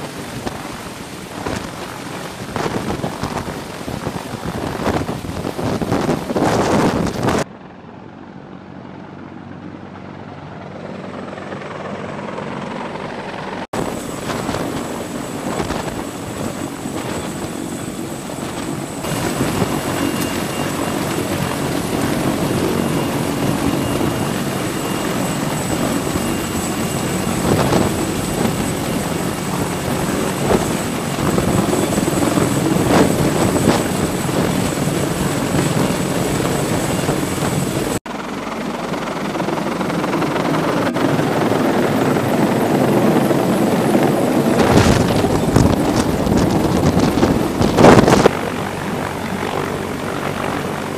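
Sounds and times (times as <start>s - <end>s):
high turbine whine: 0.0s - 10.5s, 11.1s - 50.9s
helicopter rotor wash roar: 0.0s - 50.9s.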